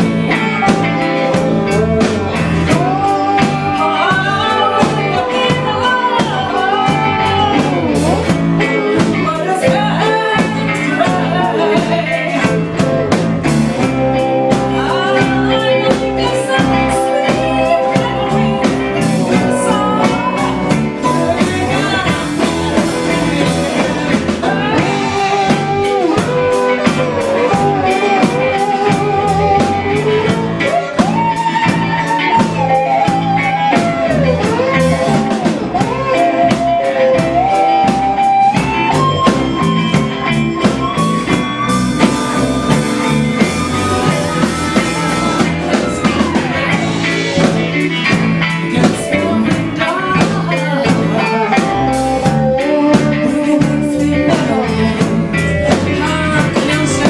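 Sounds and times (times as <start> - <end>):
lead melody of wavering notes: 0.0 - 56.7
bass guitar: 0.0 - 57.0
drums keeping a steady beat: 0.0 - 57.0
guitars: 0.0 - 57.0
keyboard: 0.0 - 57.0.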